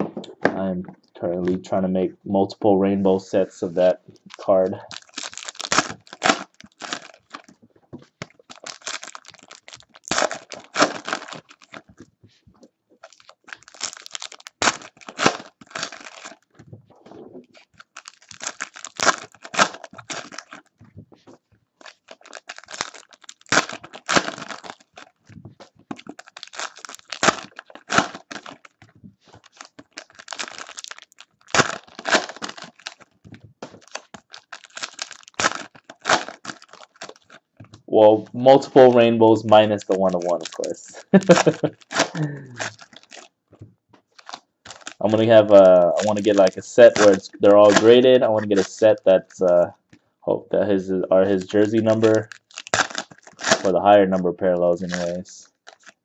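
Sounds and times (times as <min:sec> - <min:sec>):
foil wrappers tearing and crinkling: 0:04.2 - 0:07.5, 0:08.2 - 0:11.9, 0:13.0 - 0:16.5, 0:17.5 - 0:20.8, 0:21.8 - 0:25.3, 0:25.9 - 0:43.3, 0:44.1 - 0:49.6, 0:51.2 - 0:56.0.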